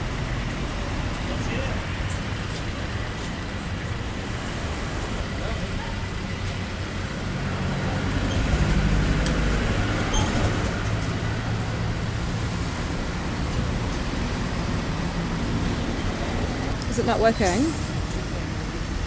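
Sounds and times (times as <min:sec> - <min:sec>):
road noise: 0:00.0 - 0:19.0
vehicle engine low rumble: 0:00.0 - 0:19.0.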